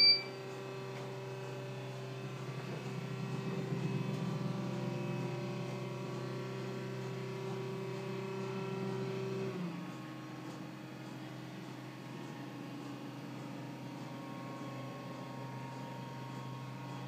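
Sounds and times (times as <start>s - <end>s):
stairlift motor humming: 0.0s - 17.0s.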